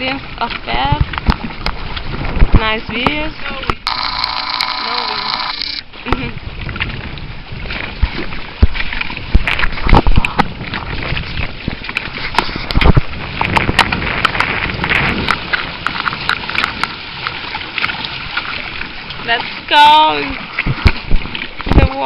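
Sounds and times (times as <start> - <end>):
wind and water rushing: 0.0 - 22.0.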